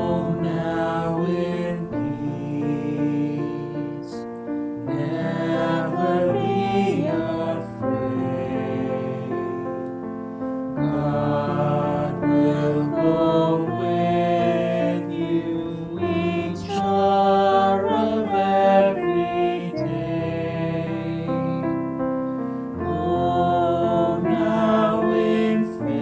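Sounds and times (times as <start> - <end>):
slow worship music: 0.0 - 26.0.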